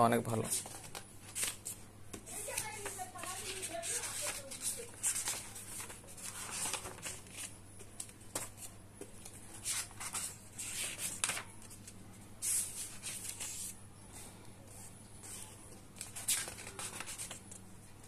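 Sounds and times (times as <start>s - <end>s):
book pages flipping: 0.4s - 13.8s, 14.7s - 17.7s.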